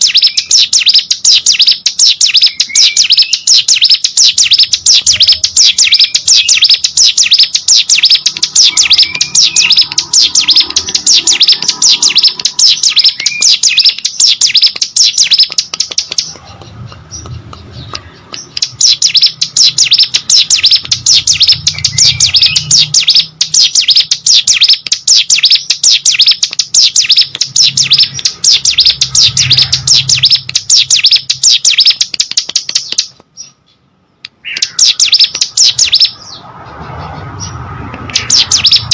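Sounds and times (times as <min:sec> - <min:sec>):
bird singing rapid high chirps: 0:00.0 - 0:38.9.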